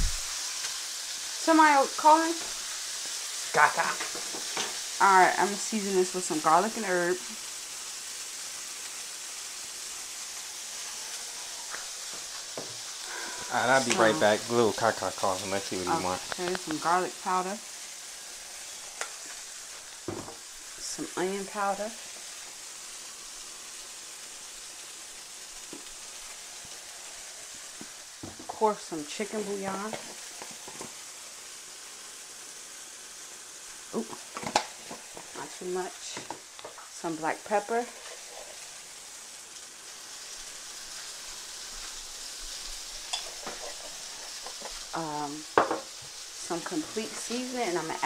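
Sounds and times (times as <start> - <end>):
sausages sizzling in a skillet: 0.0 - 48.0.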